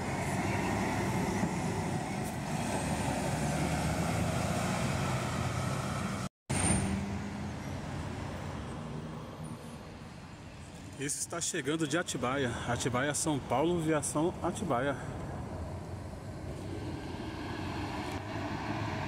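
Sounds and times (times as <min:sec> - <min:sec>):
second coach diesel engine: 0:00.0 - 0:19.0.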